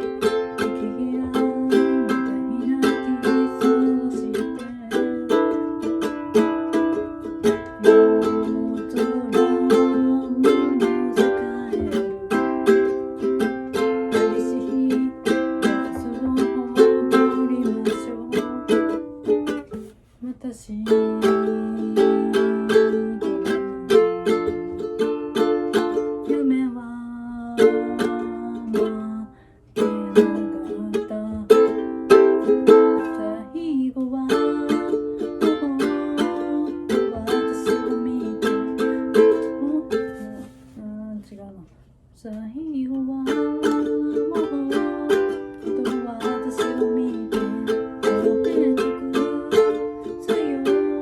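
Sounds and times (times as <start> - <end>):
ukulele strumming: 0.0 - 41.2, 42.6 - 51.0.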